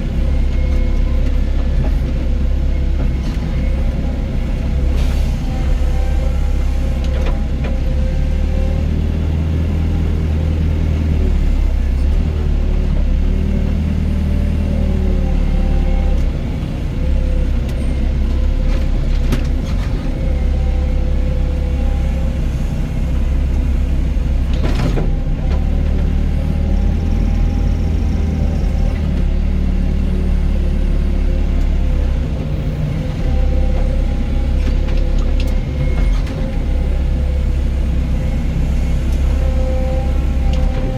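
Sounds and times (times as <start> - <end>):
excavator diesel engine under load: 0.0 - 40.9.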